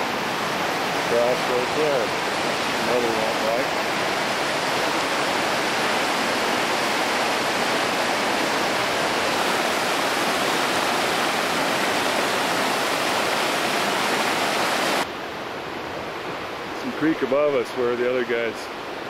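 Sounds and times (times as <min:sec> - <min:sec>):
creek rushing over boulders: 0:00.0 - 0:19.0.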